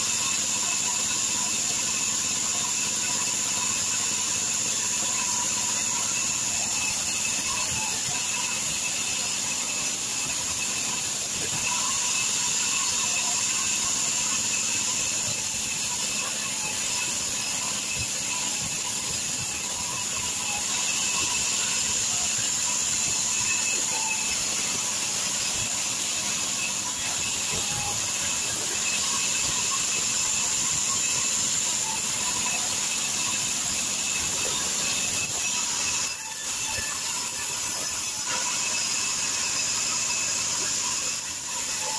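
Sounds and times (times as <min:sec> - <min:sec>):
band saw whine: 0:00.0 - 0:41.9
hiss of sawing: 0:00.0 - 0:41.9.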